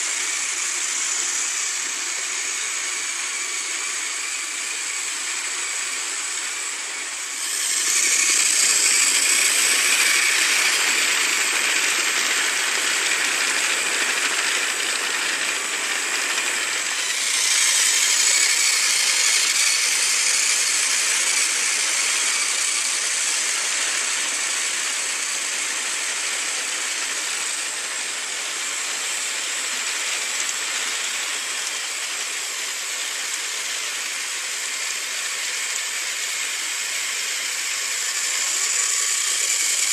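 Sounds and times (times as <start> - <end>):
toy train motor whirring: 0.0 - 39.9
toy train wheels rattling: 0.0 - 39.9.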